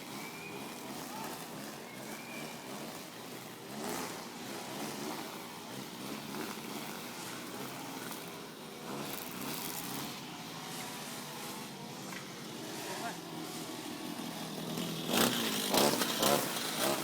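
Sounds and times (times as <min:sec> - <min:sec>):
street-cleaning machine engines: 0:00.0 - 0:17.0.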